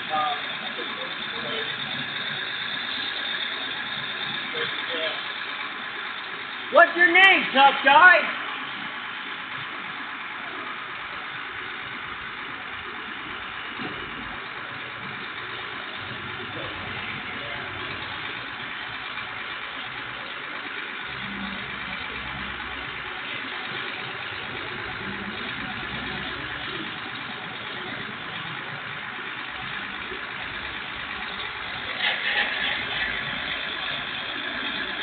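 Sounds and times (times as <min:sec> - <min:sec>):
fire engine idling: 0:00.0 - 0:35.0.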